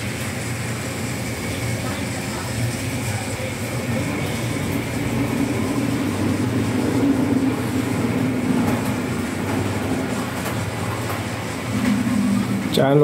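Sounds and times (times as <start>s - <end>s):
model train rumbling on track: 0.0s - 13.0s.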